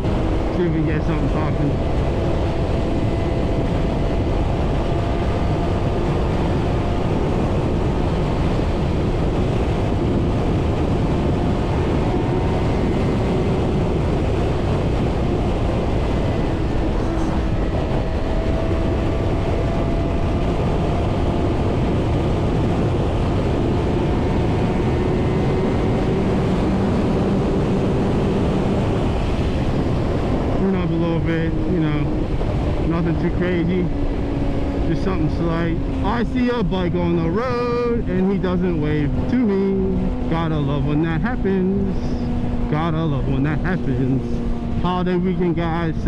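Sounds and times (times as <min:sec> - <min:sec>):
wind rush over microphone: 0:00.0 - 0:46.0.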